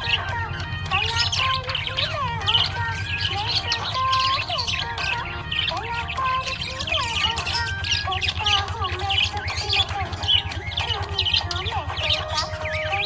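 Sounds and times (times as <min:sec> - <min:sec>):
budgerigars chirping and warbling: 0:00.0 - 0:13.0.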